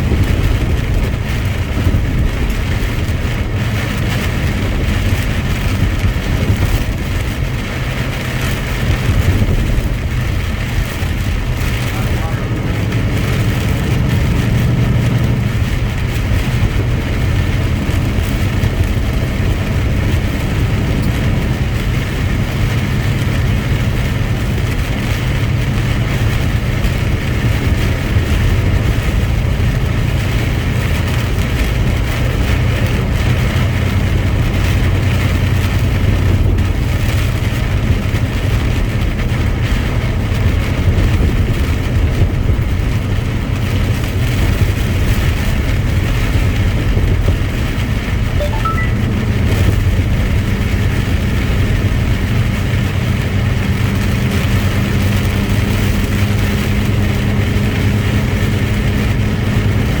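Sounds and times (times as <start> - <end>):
road noise: 0.0 - 60.0
truck engine drone: 0.0 - 60.0.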